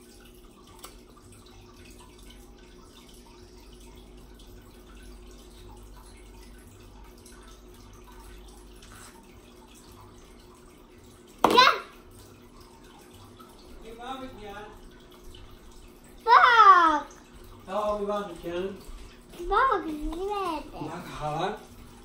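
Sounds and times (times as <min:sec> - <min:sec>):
household background noise: 0:00.0 - 0:22.0.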